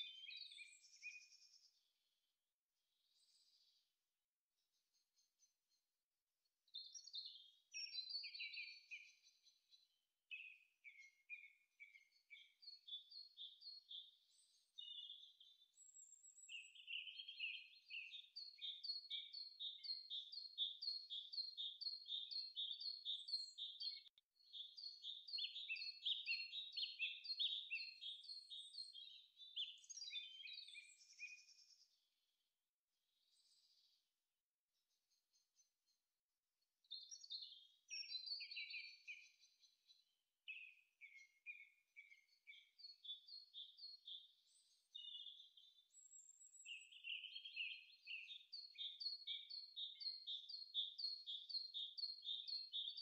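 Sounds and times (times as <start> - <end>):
small birds chirping and trilling: 0.0 - 1.9, 3.0 - 3.9, 6.7 - 32.1, 33.2 - 34.0, 34.9 - 36.0, 36.8 - 53.0.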